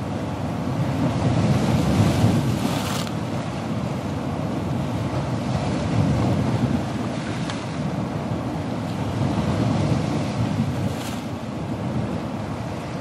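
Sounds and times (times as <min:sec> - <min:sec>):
breaking waves: 0:00.0 - 0:13.0.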